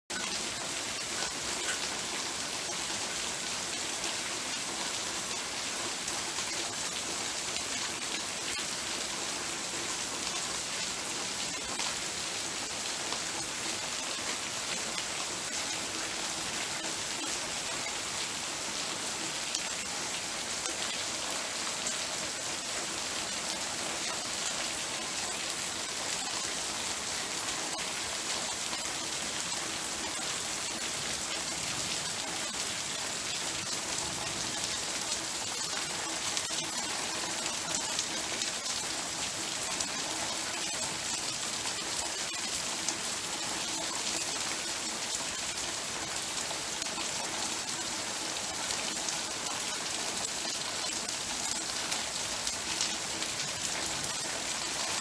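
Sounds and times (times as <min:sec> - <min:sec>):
heavy rain falling: 0:00.1 - 0:55.0.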